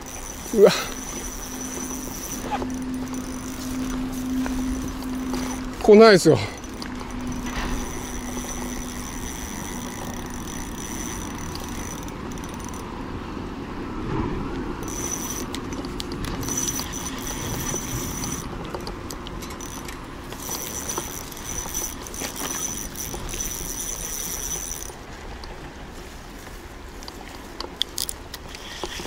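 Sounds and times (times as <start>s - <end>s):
reel clicks: 0.0s - 12.9s, 14.5s - 25.6s, 26.4s - 29.0s
fishing reel whirring: 0.0s - 13.0s, 14.8s - 25.0s, 27.8s - 29.0s.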